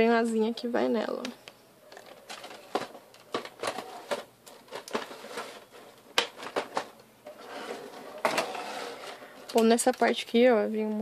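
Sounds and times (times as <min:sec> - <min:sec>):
plastic trays crackling and clicking: 0:01.2 - 0:10.5.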